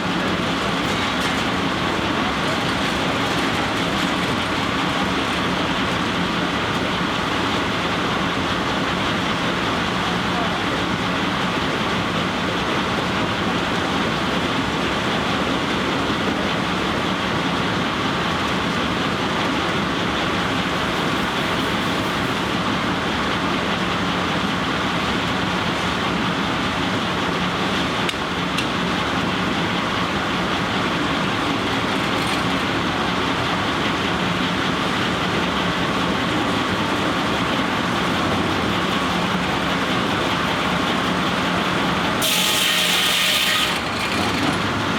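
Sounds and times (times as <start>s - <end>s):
sawmill machinery running: 0.0s - 44.9s.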